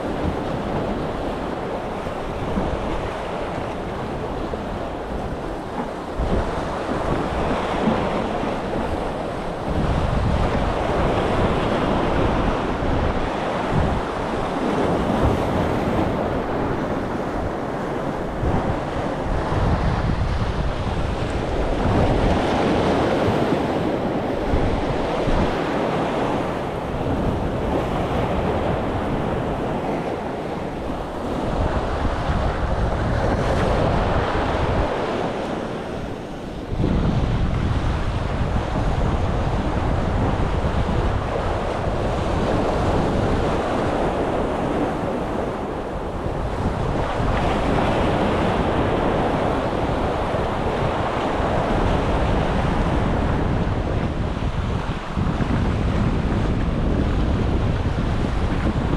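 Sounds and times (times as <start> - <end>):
sea waves washing against breakwater: 0.0 - 58.9
wind buffeting microphone: 0.0 - 58.9.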